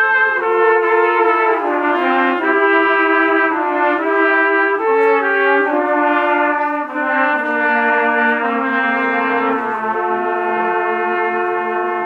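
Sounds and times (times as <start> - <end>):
trumpets playing in harmony: 0.0 - 12.0.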